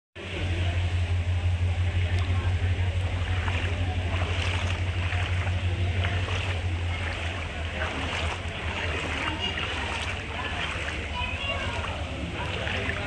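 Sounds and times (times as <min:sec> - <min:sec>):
steady low rumble: 0:00.2 - 0:13.0
water lapping and swishing: 0:01.8 - 0:13.0.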